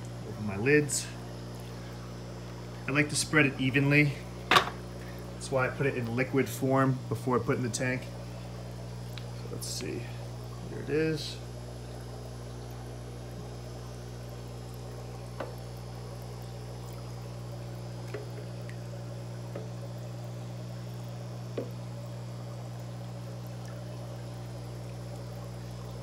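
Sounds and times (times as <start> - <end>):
aquarium pumps humming: 0.0 - 26.0
water running and bubbling: 0.0 - 26.0.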